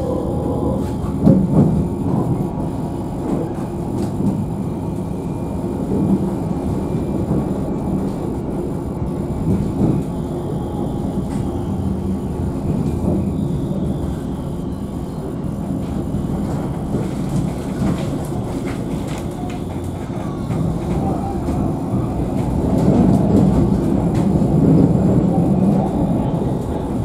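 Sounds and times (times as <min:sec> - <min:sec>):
tram wheels rumbling: 0:00.0 - 0:27.0.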